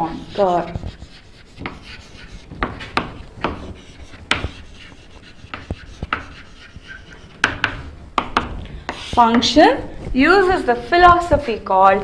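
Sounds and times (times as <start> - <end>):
chalk writing on chalkboard: 0.0 - 12.0.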